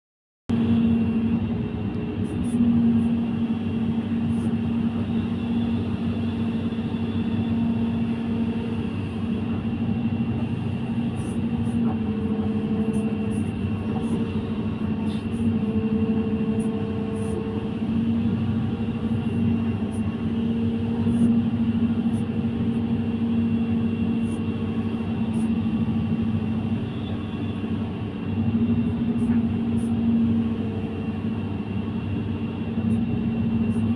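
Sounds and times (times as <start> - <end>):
excavator diesel engine running: 0.5 - 33.9.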